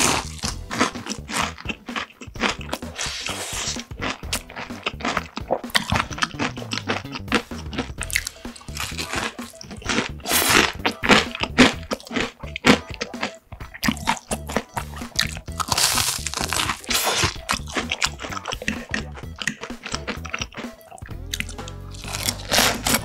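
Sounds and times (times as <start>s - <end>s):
crunching and chewing fried food: 0.0s - 23.0s.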